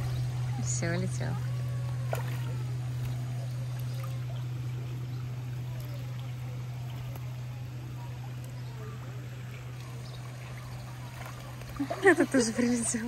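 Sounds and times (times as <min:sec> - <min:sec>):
low hum: 0:00.0 - 0:13.0
running water rushing: 0:00.0 - 0:13.0.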